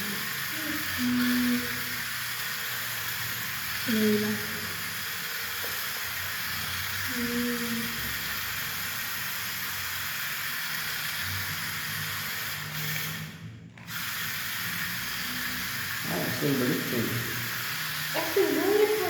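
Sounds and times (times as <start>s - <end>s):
toy car electric motor whirring: 0.0s - 19.0s.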